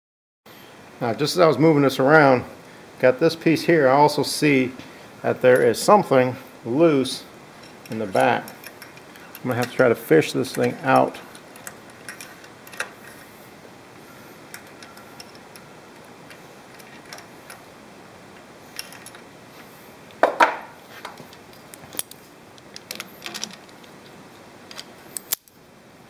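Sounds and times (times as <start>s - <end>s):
static hiss: 0.5s - 26.0s.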